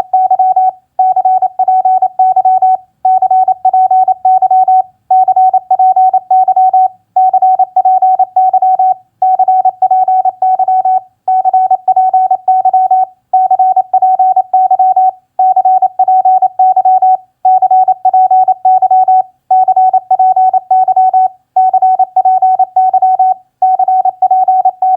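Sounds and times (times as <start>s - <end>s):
morse code tone: 0.2s - 24.9s.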